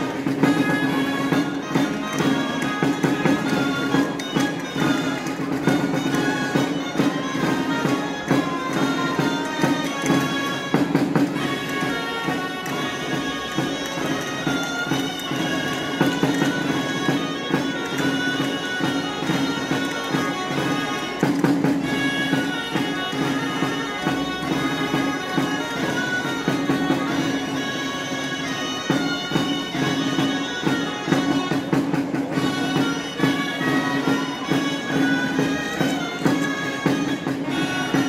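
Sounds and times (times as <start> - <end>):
shawms playing folk dance tune: 0.0 - 38.0.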